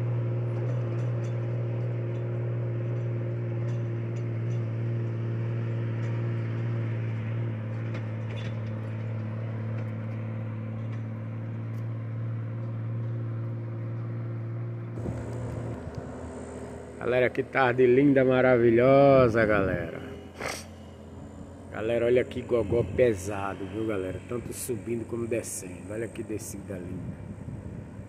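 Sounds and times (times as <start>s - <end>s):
heavy truck engine under load: 0.0s - 28.0s.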